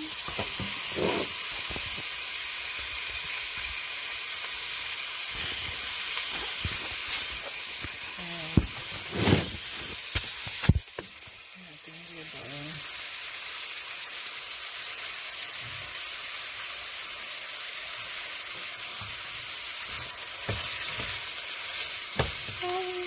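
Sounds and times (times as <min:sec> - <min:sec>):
tofu sizzling in a pan: 0:00.0 - 0:23.0.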